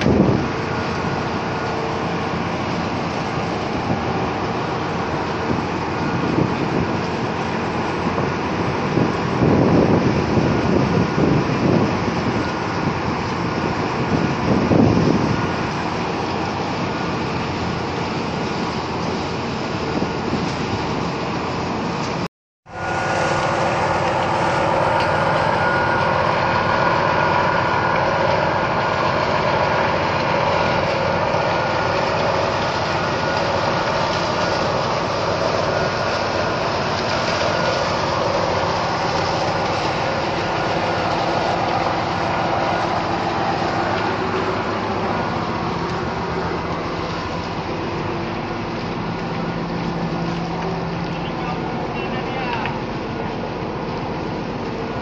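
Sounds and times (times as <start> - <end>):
ship engine machinery droning: 0.0 - 55.0.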